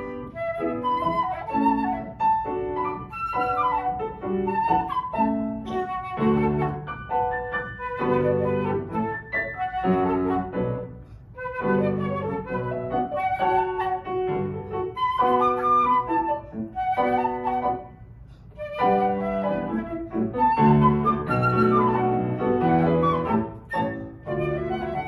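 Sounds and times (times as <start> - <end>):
flute melody: 0.0 - 25.0
piano accompaniment: 0.0 - 25.0.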